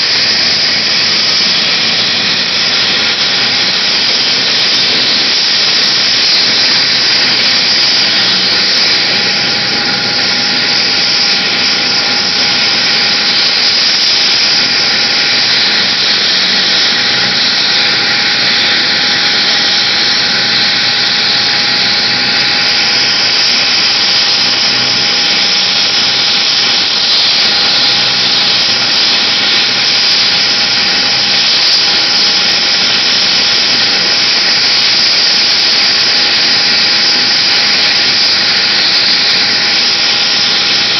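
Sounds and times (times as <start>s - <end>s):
helicopter turbine whine: 0.0s - 40.9s
rotor rushing hiss: 0.0s - 40.9s.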